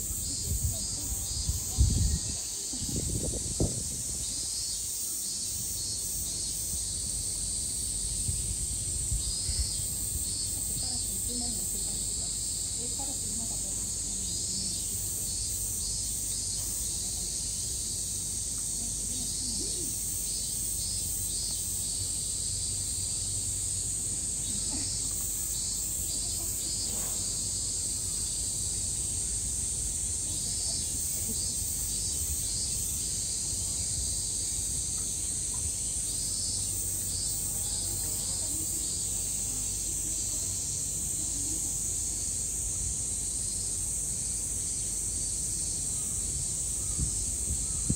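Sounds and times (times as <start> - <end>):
cicadas buzzing: 0.0 - 47.9
pulsing insect call: 0.0 - 47.9.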